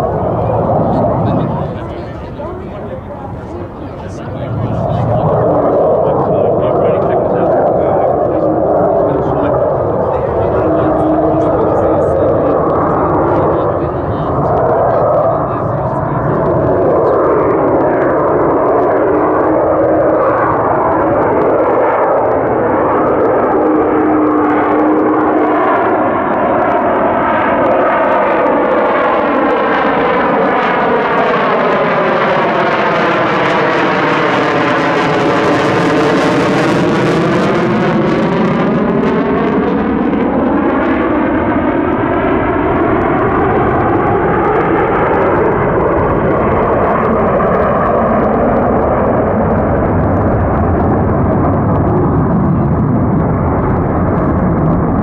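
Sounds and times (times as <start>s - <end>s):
jet flying past overhead: 0.0s - 55.0s.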